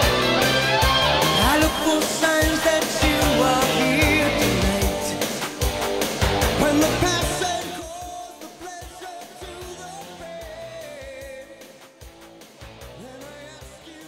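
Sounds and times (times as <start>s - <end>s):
drums: 0.0s - 14.0s
rock music with singing: 0.0s - 14.0s.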